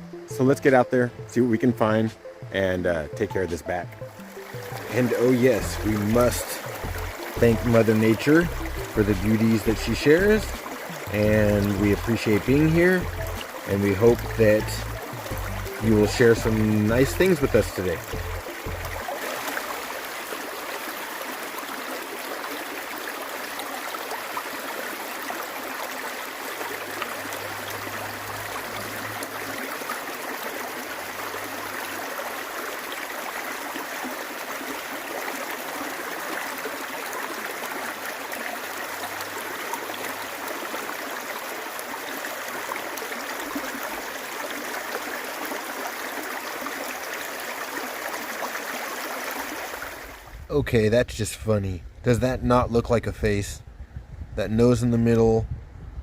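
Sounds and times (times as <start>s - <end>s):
creek water flowing: 0.0s - 50.5s.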